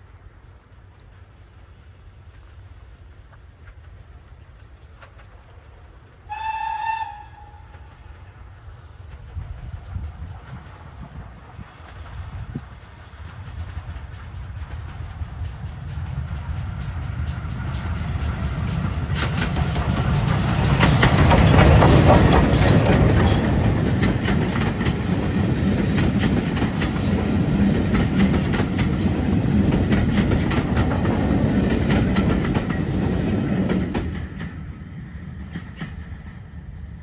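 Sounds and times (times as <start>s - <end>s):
steam locomotive passing: 0.0s - 37.0s
train wheels clickety-clack: 0.0s - 37.0s.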